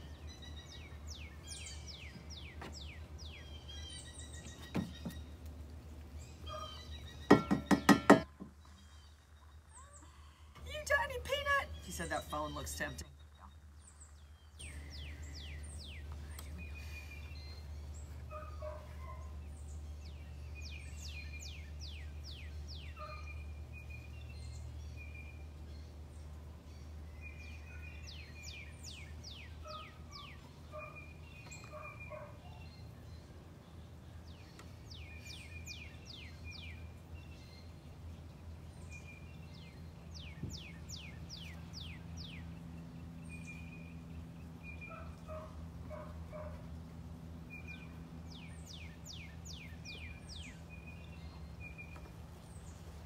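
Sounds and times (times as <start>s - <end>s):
songbird singing: 0.0s - 53.0s
steady low hum: 5.2s - 53.0s.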